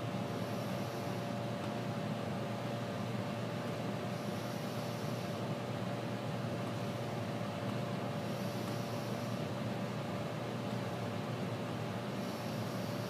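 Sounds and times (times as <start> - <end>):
microwave oven hum: 0.0 - 13.0.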